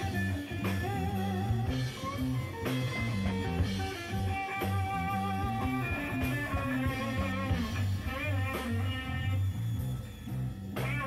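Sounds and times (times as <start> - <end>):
guitar-led background music: 0.0 - 11.0.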